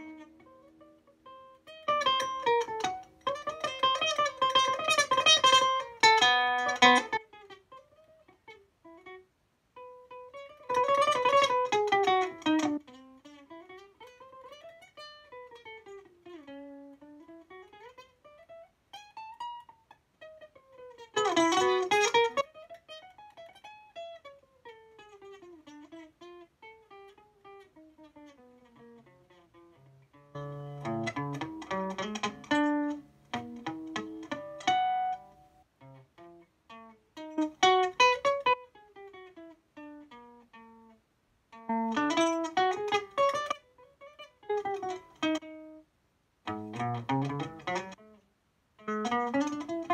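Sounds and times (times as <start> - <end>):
acoustic guitar playing: 0.0 - 9.2, 9.8 - 45.8, 46.5 - 48.2, 48.8 - 49.9.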